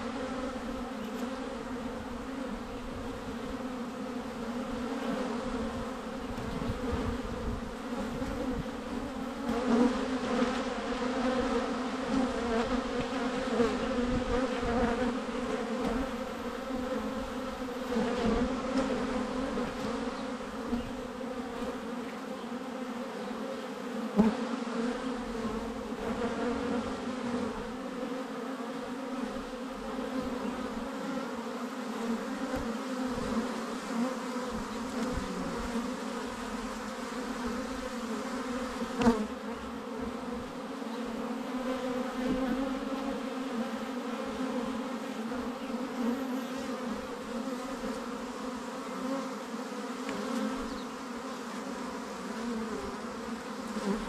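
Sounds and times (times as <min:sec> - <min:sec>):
bees buzzing: 0:00.0 - 0:54.0.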